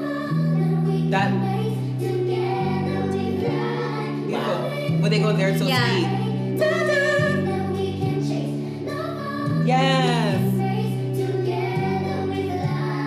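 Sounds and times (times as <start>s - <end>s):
boys singing pop ballad: 0.0s - 13.0s
instrumental backing: 1.0s - 13.0s.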